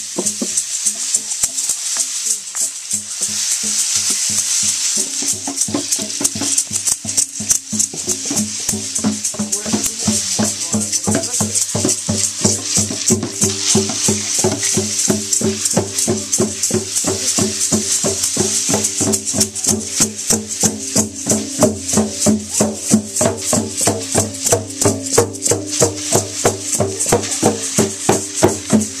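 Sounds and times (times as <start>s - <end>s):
rattles shaken rhythmically: 0.0s - 29.0s.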